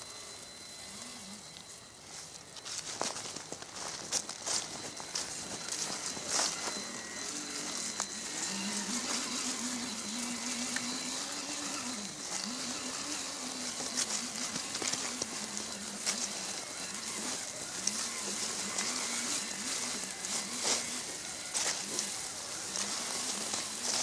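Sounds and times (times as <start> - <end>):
electric motor and gears whining: 0.0 - 24.0.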